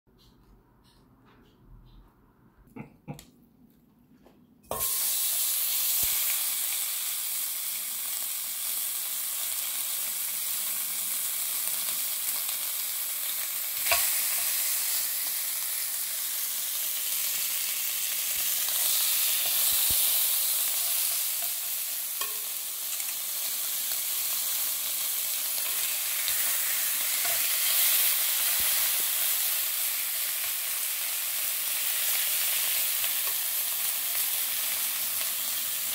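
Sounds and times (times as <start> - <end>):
meat sizzling on a grill: 4.7 - 35.9.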